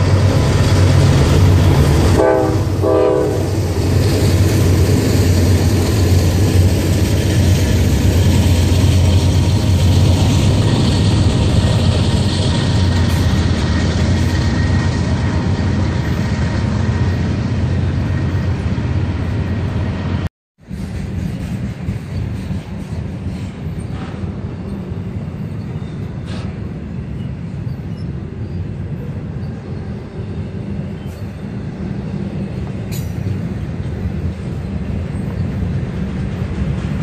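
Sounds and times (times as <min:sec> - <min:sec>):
diesel train rumbling: 0:00.0 - 0:37.0.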